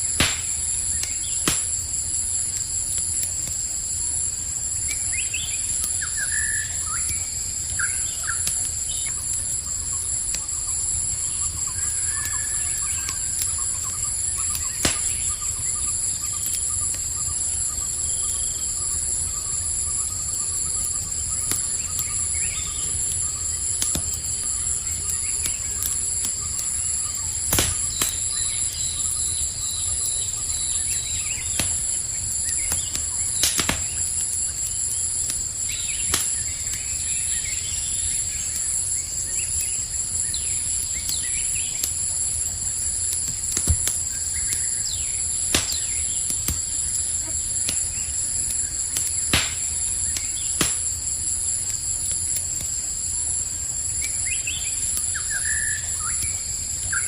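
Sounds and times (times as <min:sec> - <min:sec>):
campfire crackling: 0:00.0 - 0:57.0
crickets chirping: 0:00.0 - 0:57.0
fire popping: 0:00.0 - 0:57.0.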